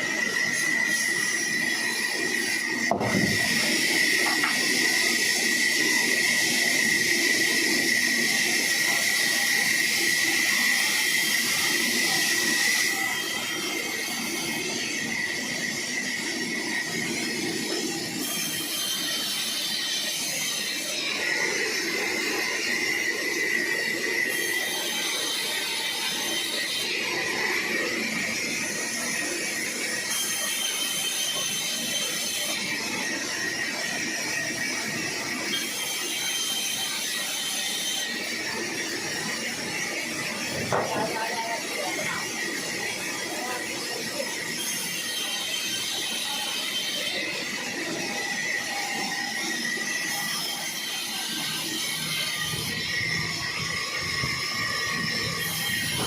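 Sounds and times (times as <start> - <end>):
saw cutting through log: 0.0 - 56.0.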